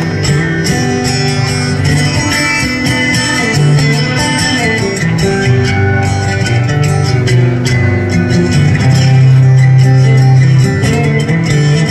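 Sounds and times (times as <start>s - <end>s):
acoustic guitar strummed: 0.0s - 11.9s.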